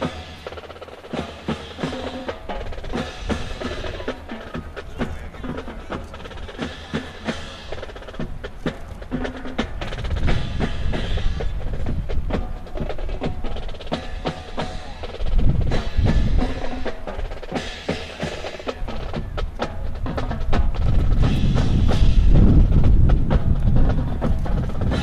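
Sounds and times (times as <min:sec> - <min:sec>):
low drum beat: 0:00.0 - 0:25.0.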